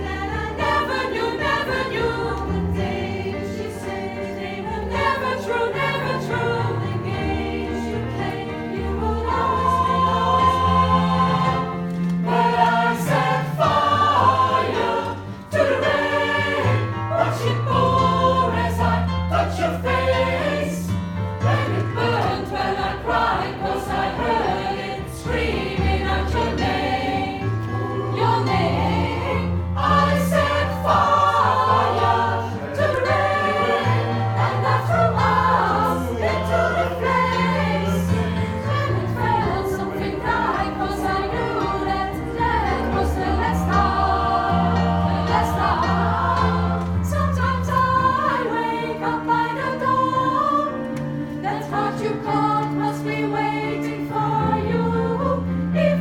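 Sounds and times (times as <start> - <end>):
vocal group singing in harmony: 0.0 - 56.0.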